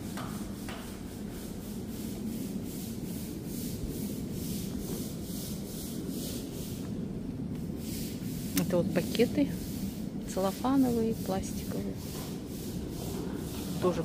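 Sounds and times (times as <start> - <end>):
stiff brush scrubbing wet concrete: 0.0 - 6.9, 7.7 - 14.0.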